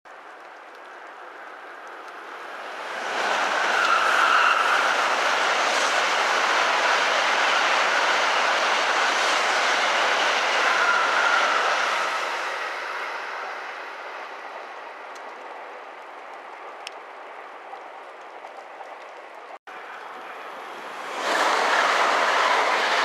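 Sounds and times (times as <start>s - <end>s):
bullet train passing: 0.9s - 17.5s, 19.7s - 23.0s.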